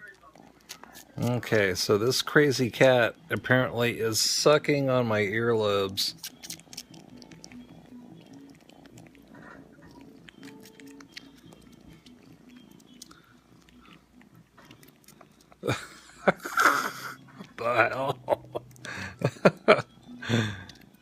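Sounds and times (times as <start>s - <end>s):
cat sucking and chewing: 0.0s - 21.0s.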